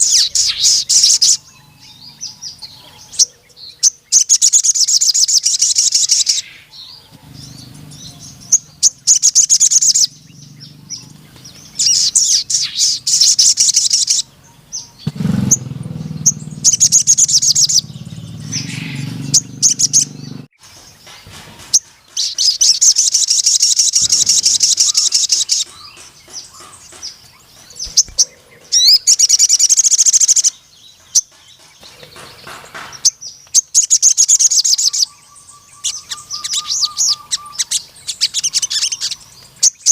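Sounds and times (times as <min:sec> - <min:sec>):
bird high-pitched trilling: 0:00.0 - 0:20.5, 0:21.6 - 0:39.9.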